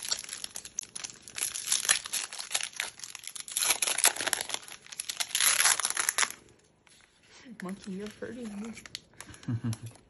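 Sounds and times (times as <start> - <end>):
foil wrappers crinkling and tearing: 0.0 - 7.0, 7.6 - 10.0.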